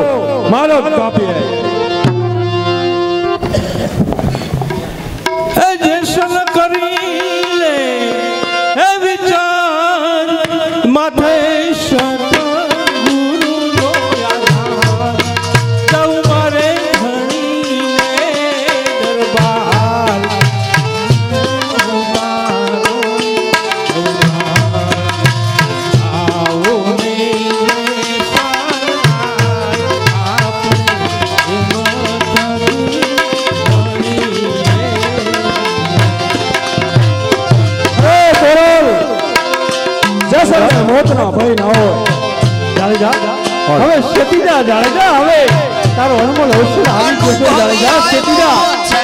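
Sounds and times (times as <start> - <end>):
hand drum rhythm: 3.4 - 8.7, 11.9 - 49.0
person singing: 5.5 - 49.0.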